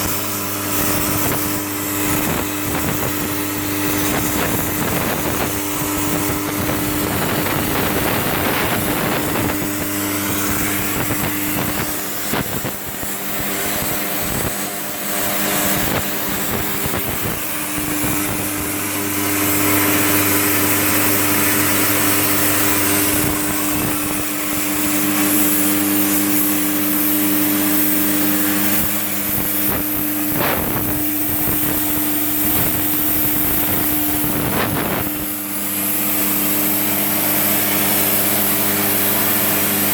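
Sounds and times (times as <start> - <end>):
plasma cutter arc hissing: 0.0 - 39.9.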